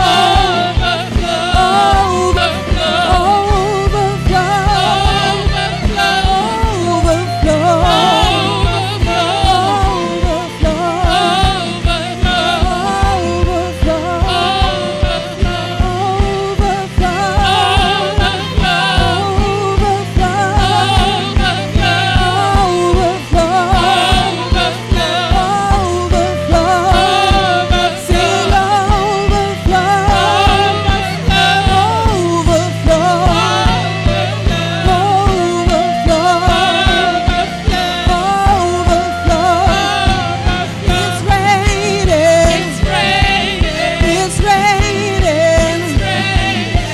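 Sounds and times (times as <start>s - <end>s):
band playing: 0.0s - 46.9s
women singing gospel: 0.0s - 46.9s.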